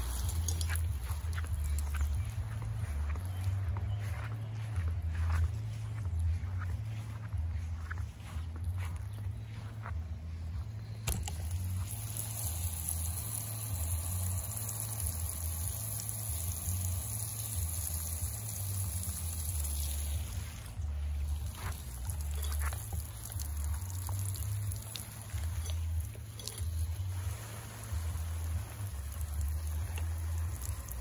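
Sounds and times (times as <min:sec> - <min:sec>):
garden hose spraying water: 0:00.0 - 0:31.0.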